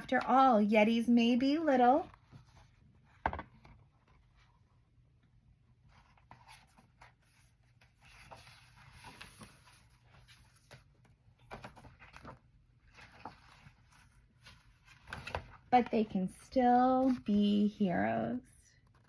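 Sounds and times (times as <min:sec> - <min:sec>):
book pages rustling and turning: 0:00.0 - 0:04.9, 0:05.6 - 0:19.0.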